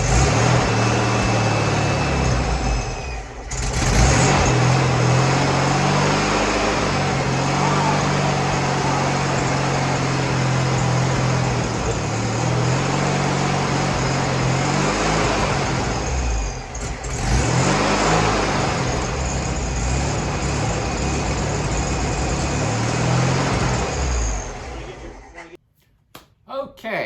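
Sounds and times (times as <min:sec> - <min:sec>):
car engine running and revving: 0:00.0 - 0:25.5.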